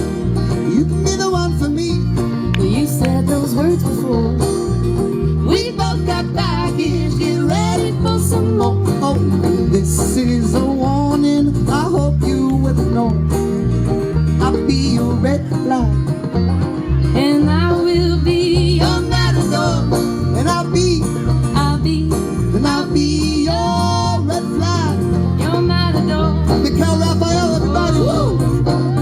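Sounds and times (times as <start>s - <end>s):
lead guitar with sliding notes: 0.0s - 29.0s
steady bass line: 0.0s - 29.0s.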